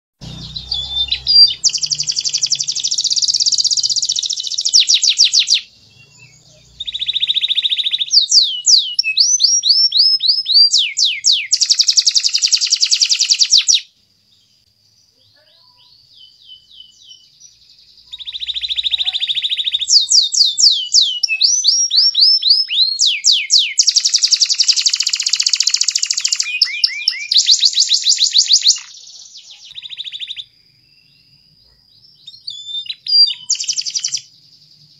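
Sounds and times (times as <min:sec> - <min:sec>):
canary singing: 0:00.2 - 0:13.9, 0:15.2 - 0:34.9.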